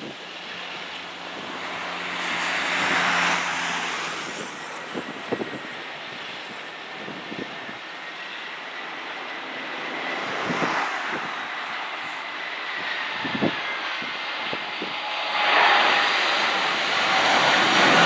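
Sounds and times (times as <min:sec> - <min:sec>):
wind buffeting microphone: 0:00.0 - 0:08.4, 0:09.4 - 0:18.0
jet airliner engines running: 0:00.0 - 0:18.0.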